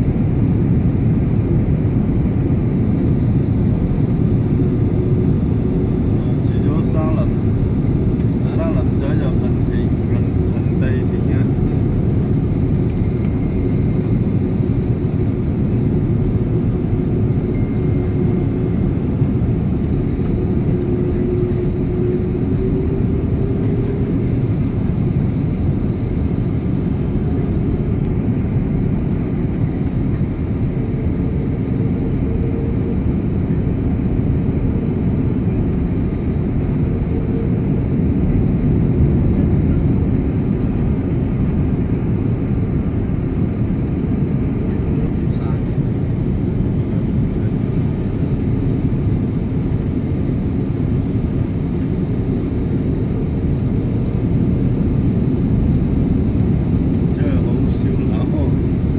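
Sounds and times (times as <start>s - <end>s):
airliner cabin rumble: 0.0s - 58.9s
faint engine hum: 0.0s - 58.9s.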